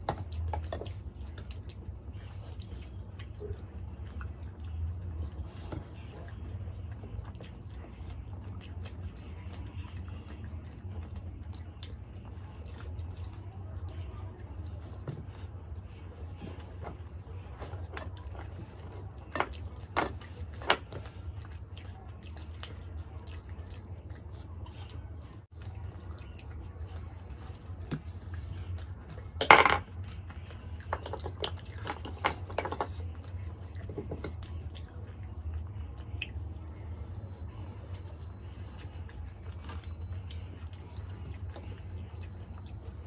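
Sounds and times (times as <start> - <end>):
chewing: 0.0 - 43.0.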